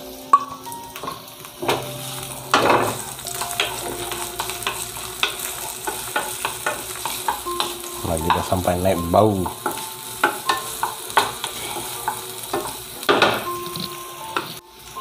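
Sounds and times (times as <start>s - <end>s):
shallots sizzling in hot oil: 0.0s - 15.0s.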